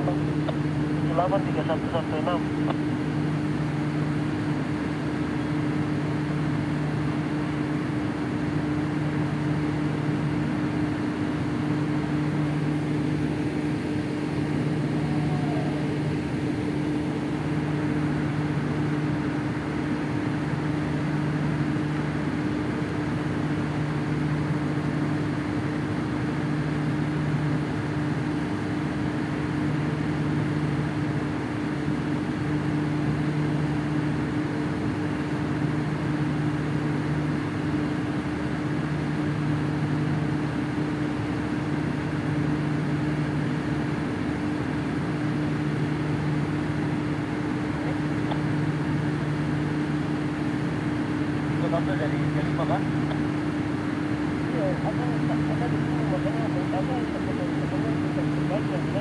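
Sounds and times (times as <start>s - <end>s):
lower machinery tone: 0.0s - 59.0s
steady machinery hum: 0.0s - 59.0s.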